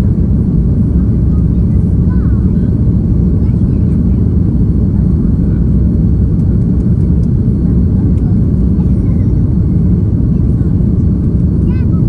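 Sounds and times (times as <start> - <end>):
jet airliner cabin rumble: 0.0 - 12.0.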